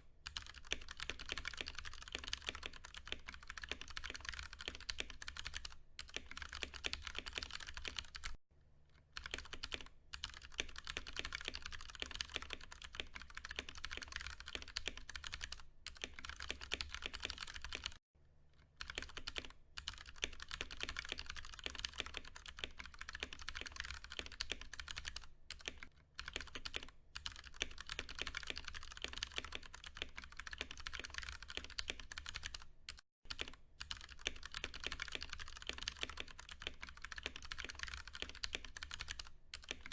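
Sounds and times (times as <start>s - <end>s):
mechanical keyboard typing: 0.2s - 8.4s, 9.2s - 18.0s, 18.8s - 39.9s.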